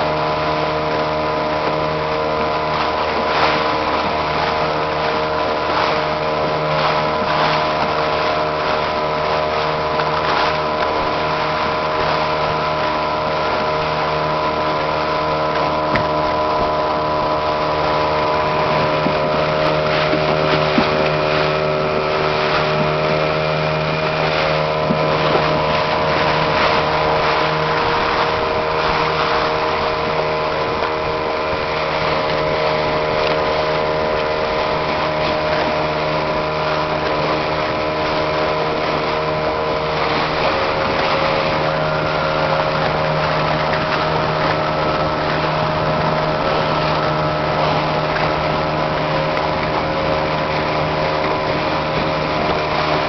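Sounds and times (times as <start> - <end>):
boat motor running: 0.0 - 53.0
water splashing against hull: 0.0 - 53.0.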